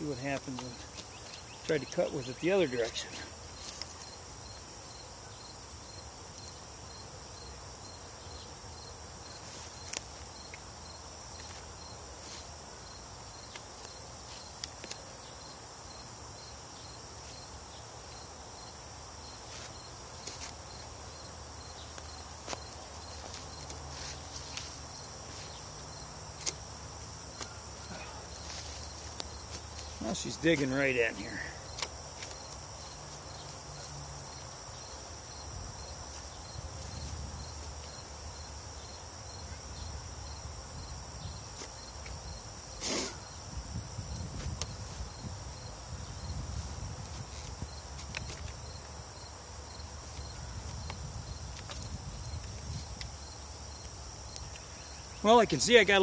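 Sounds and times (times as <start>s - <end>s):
constant high insect buzz: 0.0s - 56.0s
crickets chirping: 0.0s - 56.0s.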